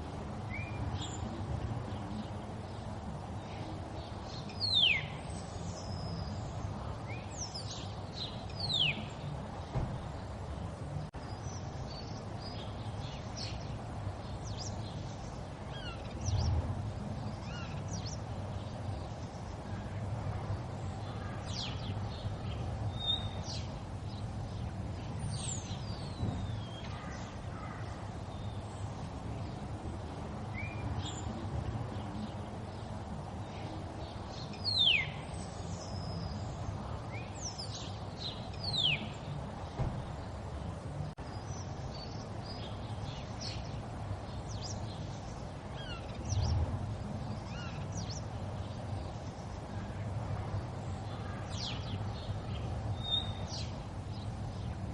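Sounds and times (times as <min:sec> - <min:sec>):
birds calling: 0:00.0 - 0:54.9.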